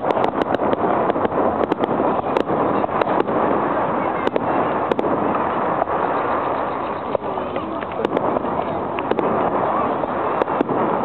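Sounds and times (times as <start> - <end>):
fireworks cracks and bangs: 0.0 - 11.0
steady rushing noise: 0.0 - 11.0.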